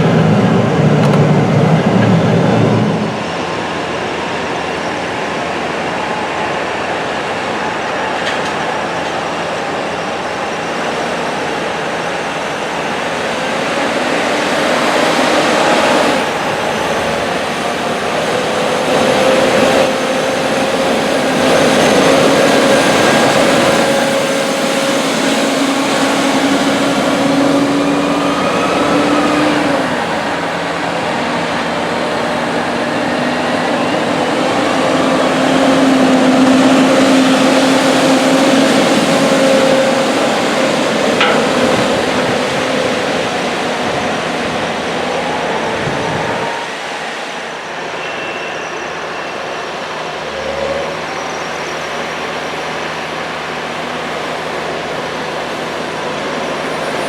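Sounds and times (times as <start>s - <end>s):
tractor diesel engine under load: 0.0s - 48.1s, 48.9s - 57.0s.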